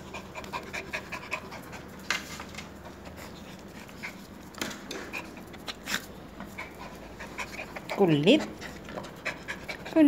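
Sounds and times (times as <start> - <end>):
puppy panting: 0.0 - 10.0.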